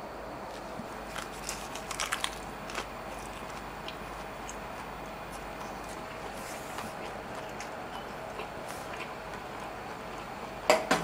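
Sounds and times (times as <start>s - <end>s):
dried seaweed crunching: 0.5s - 9.8s
chewing clicks: 1.1s - 10.4s.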